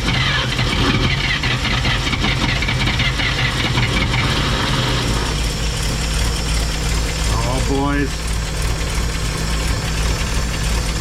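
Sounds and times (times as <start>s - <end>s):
engine cranking: 0.0s - 11.0s
truck engine running loudly: 0.0s - 11.0s.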